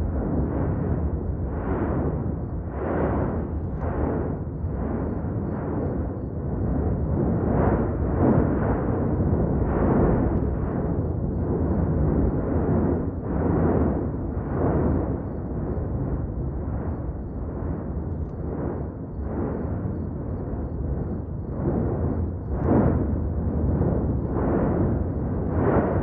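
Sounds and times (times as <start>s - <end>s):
volcano rumbling: 0.0s - 26.0s.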